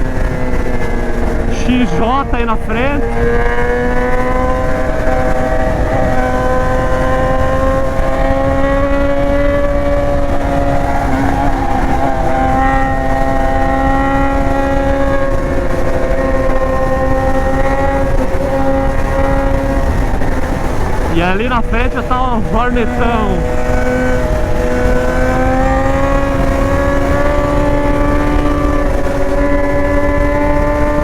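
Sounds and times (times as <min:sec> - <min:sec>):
low rushing noise: 0:00.0 - 0:28.1
motorcycle engine at steady revs: 0:00.0 - 0:31.0.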